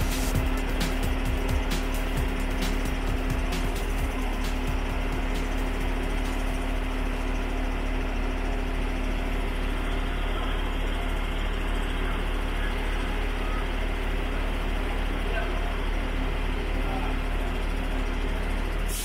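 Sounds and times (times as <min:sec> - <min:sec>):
steady hum: 0:00.0 - 0:15.9
diesel engine droning: 0:00.0 - 0:19.0.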